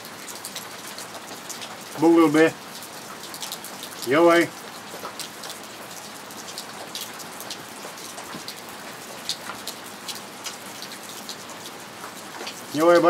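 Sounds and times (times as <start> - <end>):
steady rain: 0.0 - 13.0
raindrop taps: 0.4 - 13.0.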